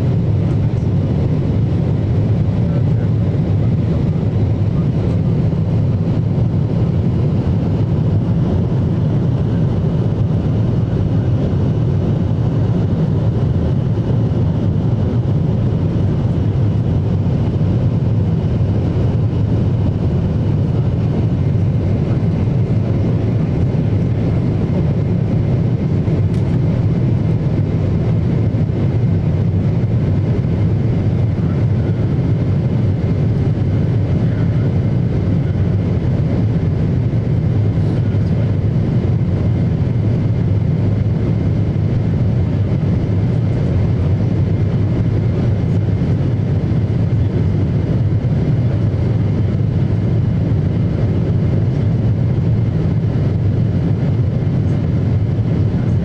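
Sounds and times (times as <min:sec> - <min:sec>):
jet engine roar in cabin: 0:00.0 - 0:56.0.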